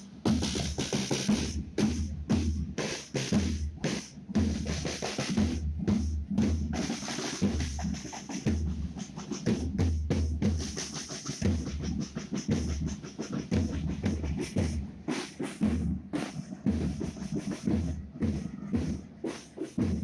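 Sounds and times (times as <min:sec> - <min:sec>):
side drums beaten rhythmically: 0:00.0 - 0:20.0.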